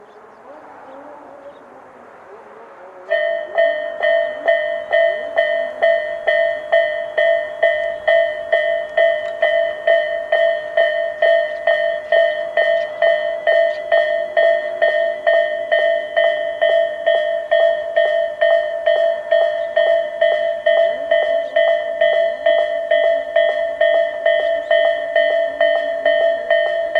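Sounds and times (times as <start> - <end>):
level crossing warning bells: 3.0 - 26.9.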